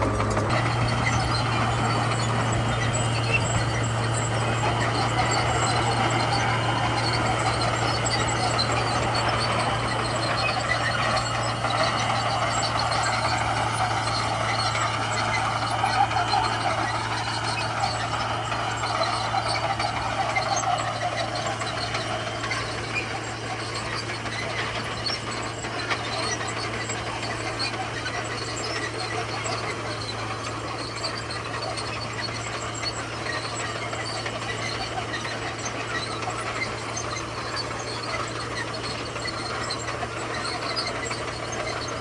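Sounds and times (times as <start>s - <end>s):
bulldozer diesel engine droning: 0.0s - 42.0s.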